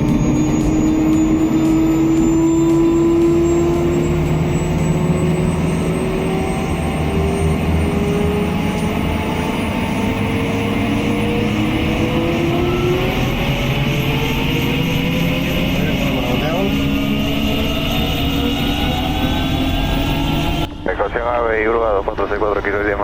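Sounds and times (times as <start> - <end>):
helicopter turbine whine rising: 0.0 - 23.0.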